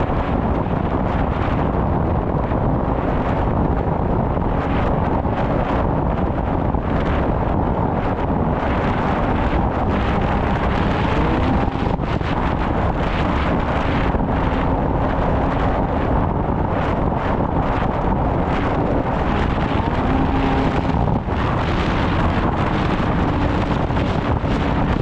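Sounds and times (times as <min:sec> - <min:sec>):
wind rushing over microphone: 0:00.0 - 0:25.0
snowmobile engine running: 0:04.4 - 0:25.0.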